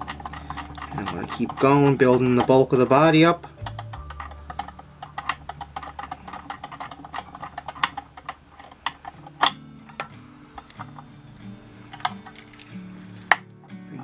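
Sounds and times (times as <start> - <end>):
fly-tying vise clicking: 0.0 - 13.5.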